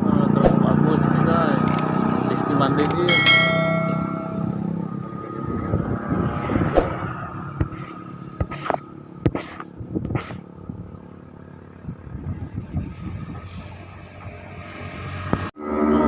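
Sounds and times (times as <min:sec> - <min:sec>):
heavy vehicle engine labouring: 0:00.0 - 0:16.0.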